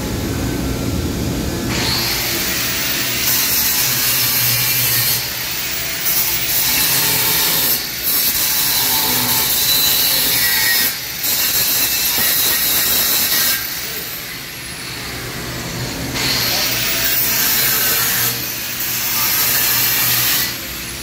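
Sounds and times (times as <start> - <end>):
angle grinder grinding steel: 1.7 - 15.0, 16.1 - 21.0.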